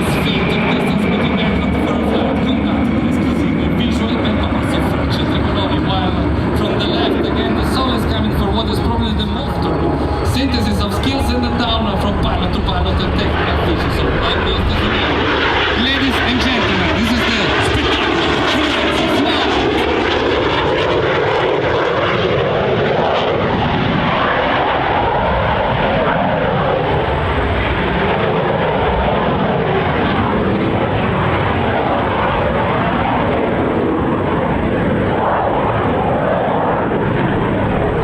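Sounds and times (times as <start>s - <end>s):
jet aircraft passing: 0.0s - 38.0s.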